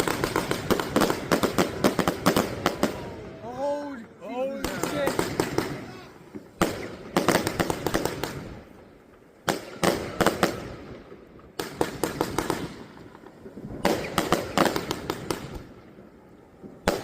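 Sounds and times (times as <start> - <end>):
firework bangs and crackles: 0.0 - 17.0.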